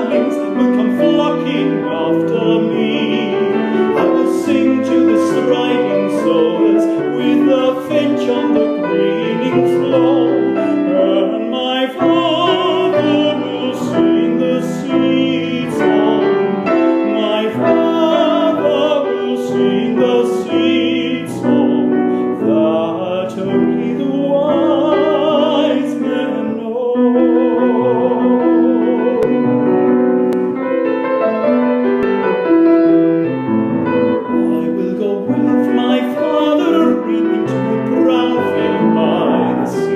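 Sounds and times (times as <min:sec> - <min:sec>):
man singing with vibrato: 0:00.0 - 0:30.1, 0:33.8 - 0:39.9
piano accompaniment: 0:00.0 - 0:39.9.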